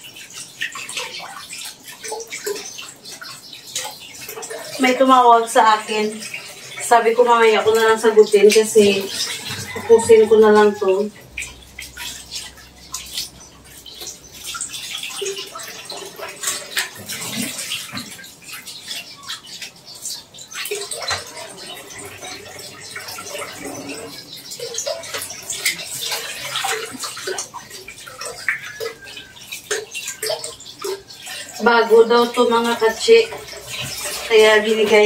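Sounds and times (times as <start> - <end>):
tap water running in sink: 0.0 - 35.0.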